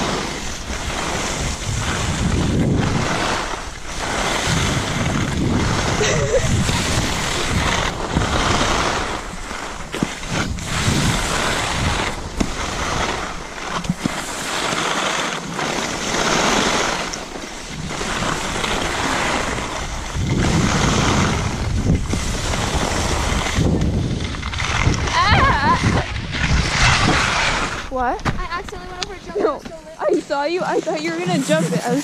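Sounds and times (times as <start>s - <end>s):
skis scraping over snow: 0.0s - 32.0s
wind buffeting microphone: 0.0s - 32.0s.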